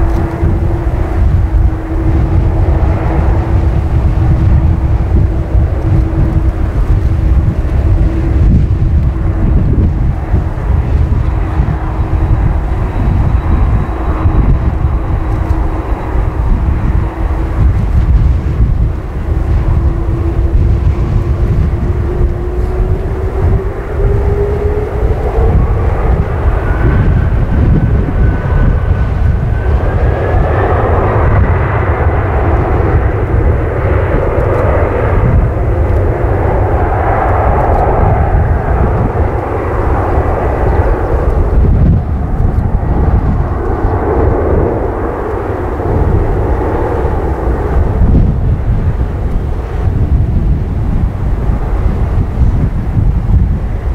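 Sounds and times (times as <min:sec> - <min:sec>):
jet engines spooling up: 0:00.0 - 0:53.9.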